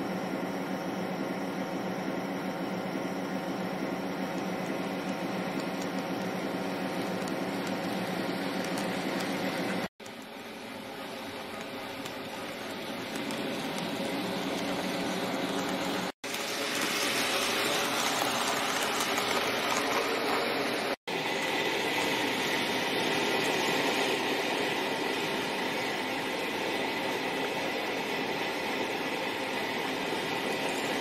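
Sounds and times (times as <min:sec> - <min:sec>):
simulated diesel railcar engine: 0:00.0 - 0:31.0.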